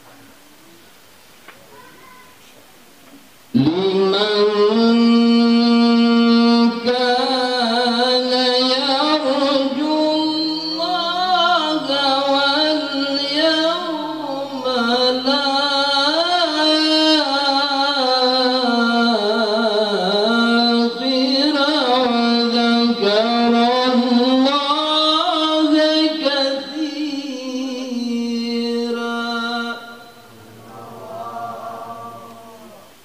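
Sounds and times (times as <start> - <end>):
man reciting through a microphone: 3.5 - 33.0.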